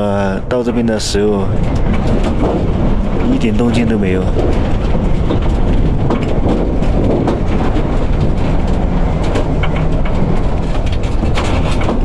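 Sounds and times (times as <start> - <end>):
strong wind rumbling: 0.0 - 12.0
vehicle body rattling: 0.0 - 12.0.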